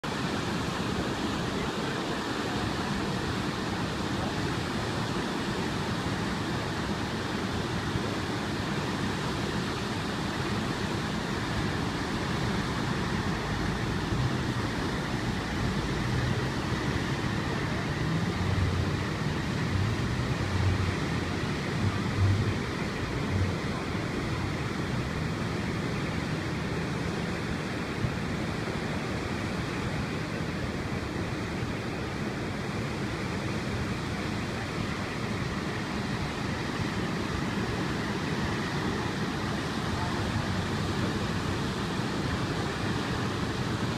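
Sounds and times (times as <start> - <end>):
rushing white water: 0.0 - 43.9.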